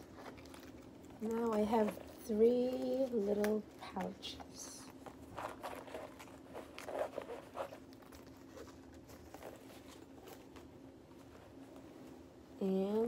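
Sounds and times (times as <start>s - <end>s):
vinyl pouch rustling and clicking: 0.0s - 12.0s
faint steady hum: 0.0s - 13.0s.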